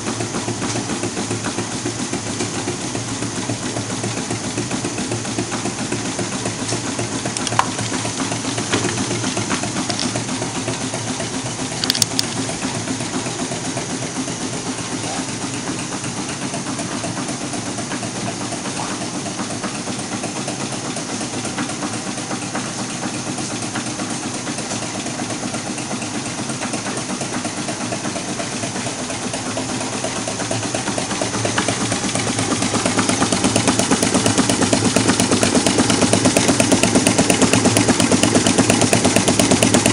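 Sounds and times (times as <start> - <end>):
small engine clattering: 0.0 - 39.9.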